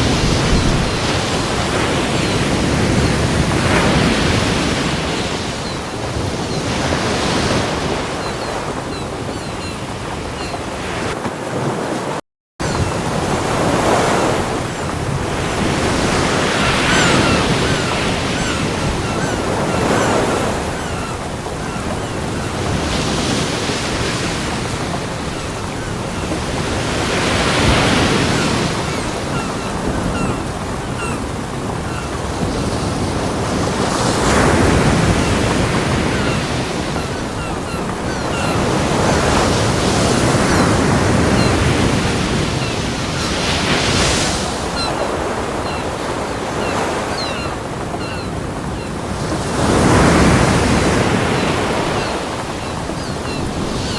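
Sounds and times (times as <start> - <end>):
waves breaking on a beach: 0.0 - 53.9.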